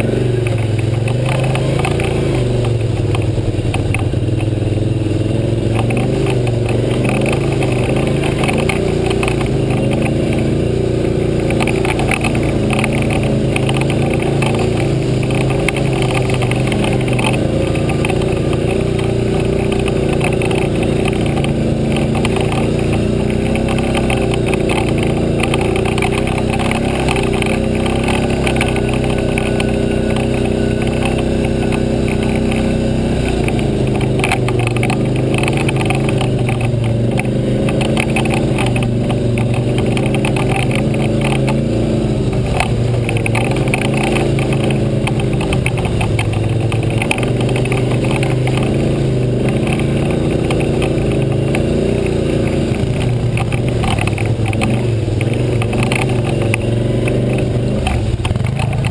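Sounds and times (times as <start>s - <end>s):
knocks and rattles: 0.0s - 4.8s, 5.4s - 58.9s
atv engine running: 0.0s - 58.9s.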